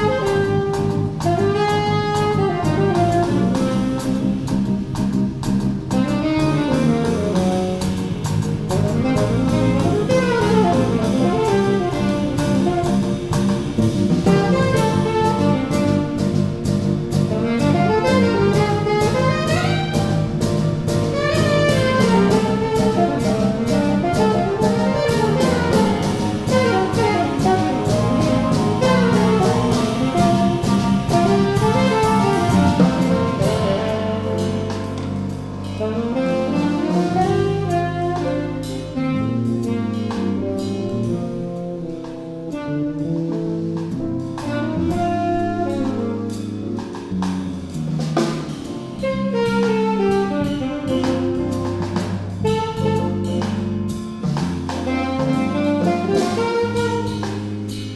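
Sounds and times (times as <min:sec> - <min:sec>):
saxophone solo: 0:00.0 - 0:47.0, 0:48.4 - 0:57.9
drum kit with cymbals: 0:00.0 - 0:57.9
grand piano: 0:00.0 - 0:57.9
upright bass: 0:00.0 - 0:57.9.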